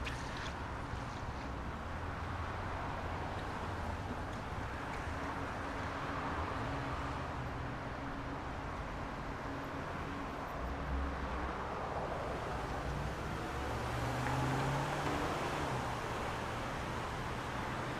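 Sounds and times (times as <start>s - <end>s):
passing vehicles: 0.0s - 17.9s.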